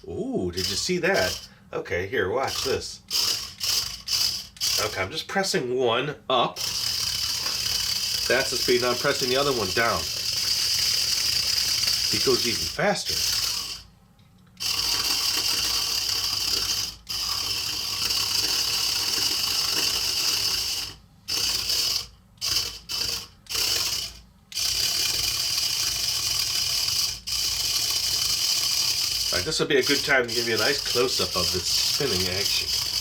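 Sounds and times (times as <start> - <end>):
toy motor whirring: 0.0 - 1.6, 2.2 - 5.3, 6.5 - 13.9, 14.6 - 33.0.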